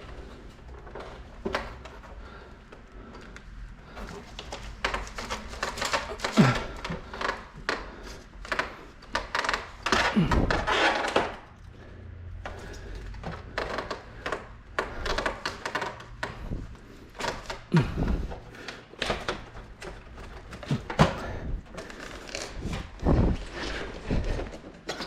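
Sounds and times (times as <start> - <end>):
plastic parts clicking and rustling: 3.1 - 11.8, 12.4 - 25.0.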